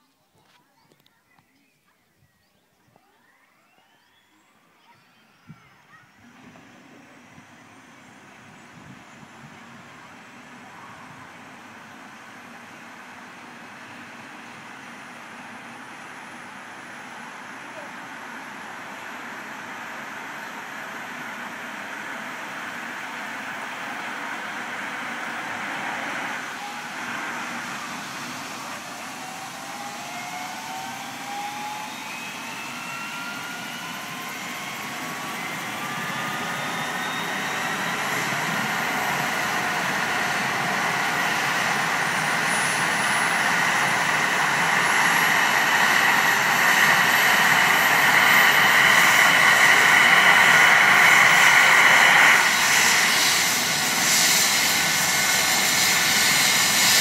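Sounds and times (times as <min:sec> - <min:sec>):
helicopter turbine whine: 0:02.8 - 0:57.0.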